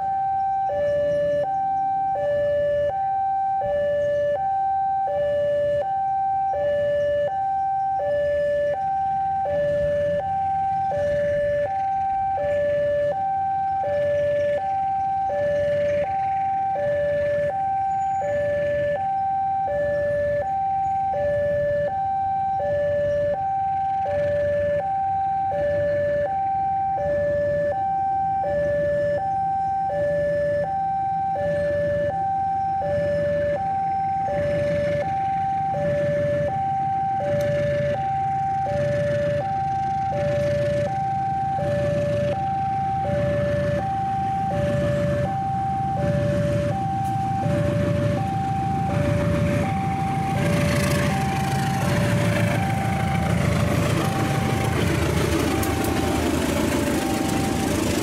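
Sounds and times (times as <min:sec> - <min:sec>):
level crossing two-tone alarm: 0:00.0 - 0:58.0
diesel locomotive rumble: 0:05.7 - 0:58.0.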